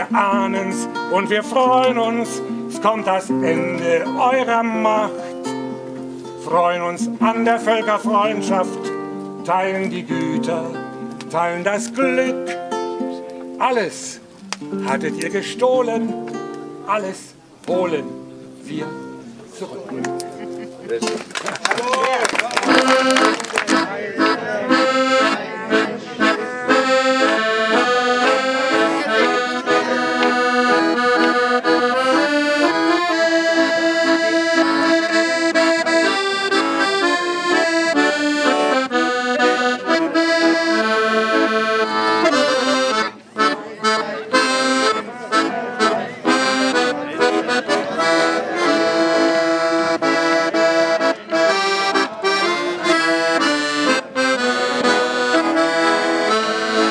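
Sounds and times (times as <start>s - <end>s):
instrumental folk music: 0.0s - 56.9s.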